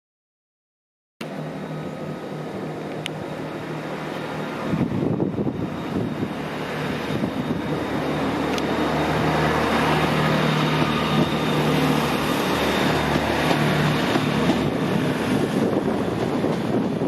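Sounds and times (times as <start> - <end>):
low engine hum: 1.2 - 17.0
train rumbling past: 1.2 - 17.0.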